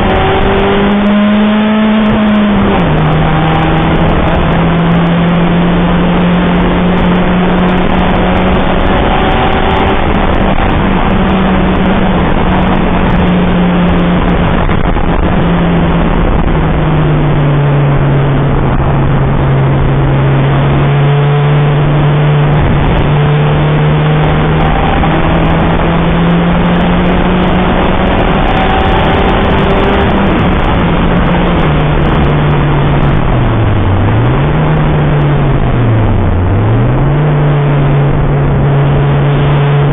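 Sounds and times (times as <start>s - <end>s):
car engine revving high: 0.0s - 39.9s
road and wind noise: 0.0s - 39.9s.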